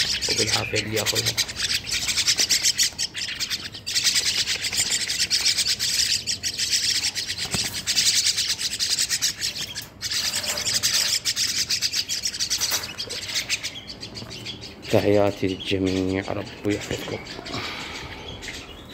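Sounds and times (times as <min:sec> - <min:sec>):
chicks begging calls: 0:00.0 - 0:18.9.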